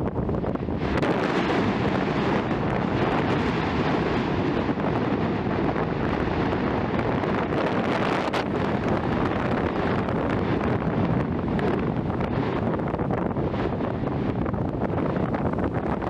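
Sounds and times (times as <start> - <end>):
volcano vent roaring: 0.0 - 16.0
wind buffeting microphone: 0.0 - 16.0.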